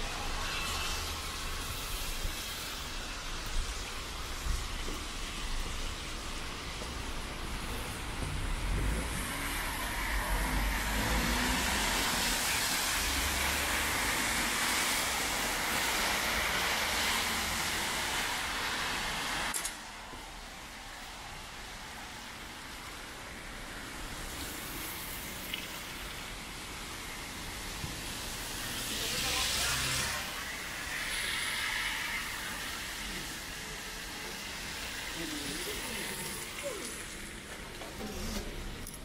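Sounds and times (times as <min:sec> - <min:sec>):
car tyres on wet road: 0:00.0 - 0:38.8
falling rain: 0:00.0 - 0:39.0.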